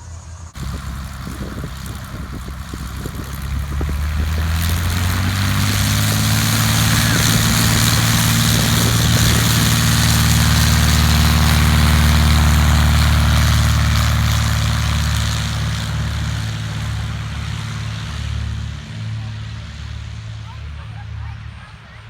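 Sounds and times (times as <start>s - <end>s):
propeller airplane engine: 0.0s - 22.0s.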